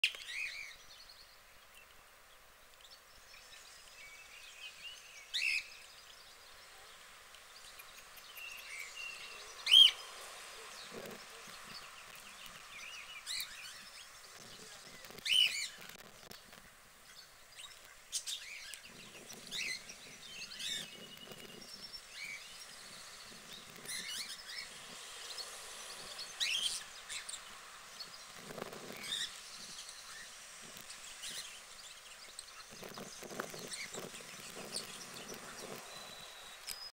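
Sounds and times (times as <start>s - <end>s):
outdoor background noise: 0.0s - 36.9s
small birds chirping: 0.0s - 36.9s.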